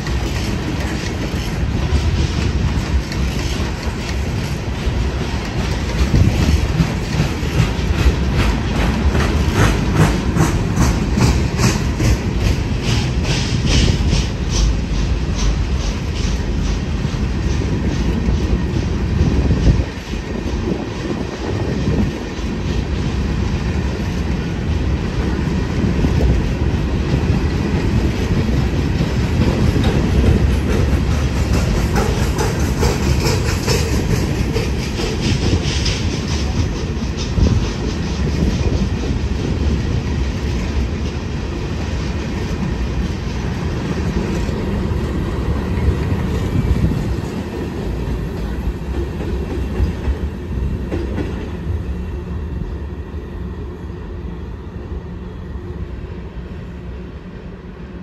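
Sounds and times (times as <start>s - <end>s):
clickety-clack over rail joints: 0.0s - 53.4s
train wheels rumbling on rail: 0.0s - 58.0s.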